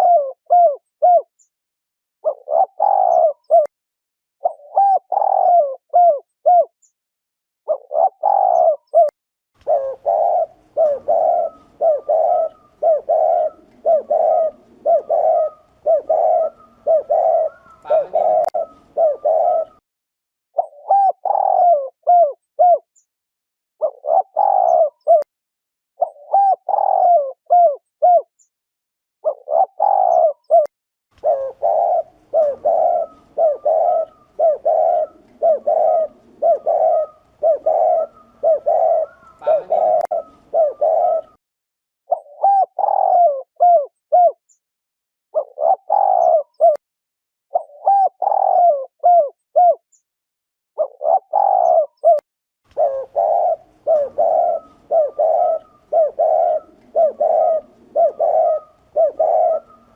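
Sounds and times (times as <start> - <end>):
dove cooing: 0.0 - 1.3, 2.2 - 3.7, 4.4 - 6.7, 7.7 - 19.8, 20.6 - 22.9, 23.8 - 25.3, 26.0 - 28.3, 29.2 - 41.4, 42.1 - 44.4, 45.4 - 46.8, 47.5 - 49.8, 50.8 - 59.9.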